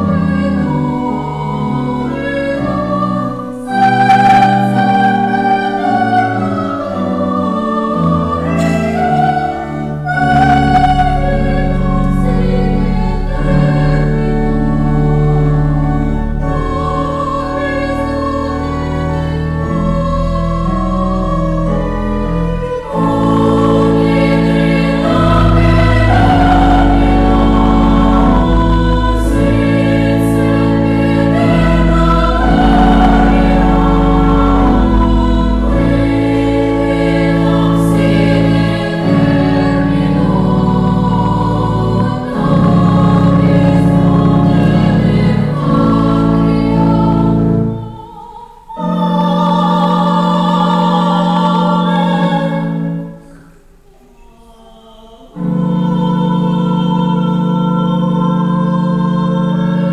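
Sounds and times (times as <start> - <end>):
organ chords: 0.0 - 53.8, 55.3 - 59.9
choir singing a hymn: 0.0 - 59.9.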